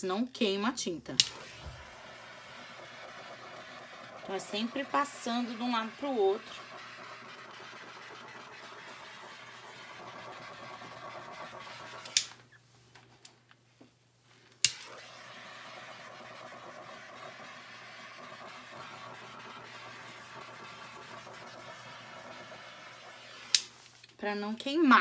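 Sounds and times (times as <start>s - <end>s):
torch clicking: 1.2s - 12.4s, 14.6s - 23.8s
torch flame hissing: 1.2s - 12.4s, 14.6s - 23.9s.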